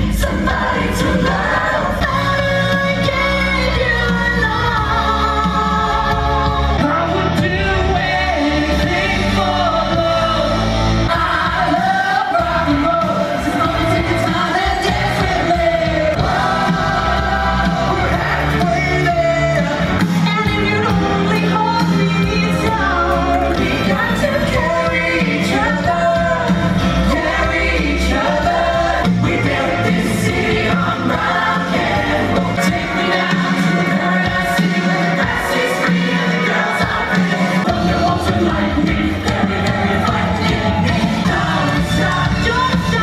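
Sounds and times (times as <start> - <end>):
live rock music with singing: 0.0 - 43.0.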